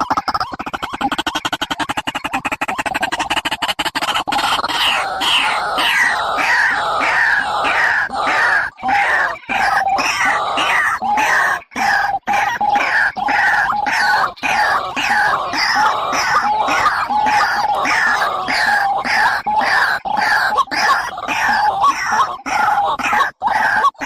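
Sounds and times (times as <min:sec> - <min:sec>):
bird calling harsh notes: 0:00.0 - 0:24.0.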